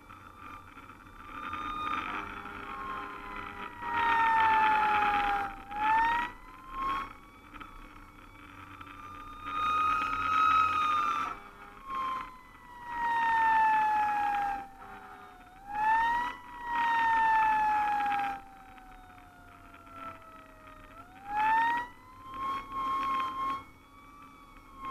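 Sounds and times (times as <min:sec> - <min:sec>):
fire engine siren wailing: 0:00.0 - 0:24.9.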